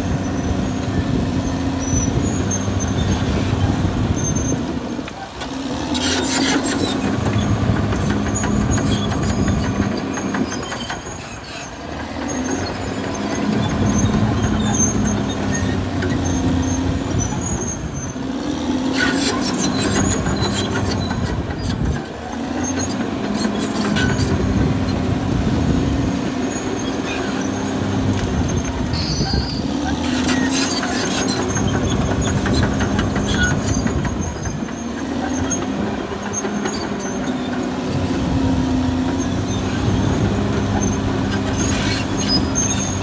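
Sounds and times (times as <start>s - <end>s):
bulldozer diesel engine under load: 0.0s - 43.0s
steel tracks squealing and clanking: 0.0s - 43.0s.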